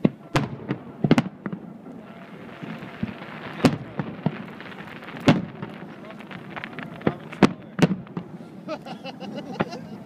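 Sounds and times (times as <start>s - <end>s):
fireworks bangs: 0.0s - 10.0s
steady hiss: 0.0s - 10.0s.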